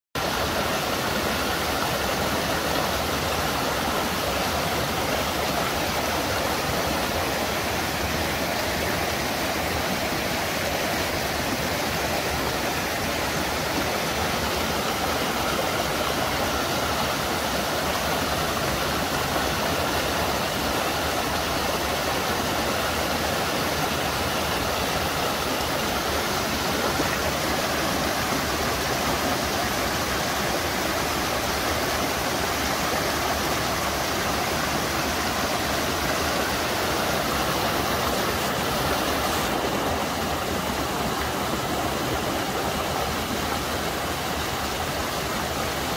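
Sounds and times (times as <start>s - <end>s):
waterfall rushing over rocks: 0.2s - 45.9s.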